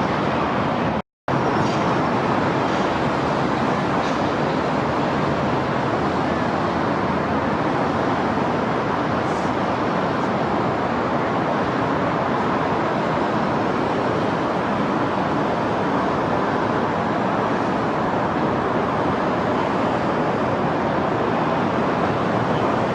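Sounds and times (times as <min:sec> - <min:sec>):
distant city traffic: 0:00.0 - 0:22.9.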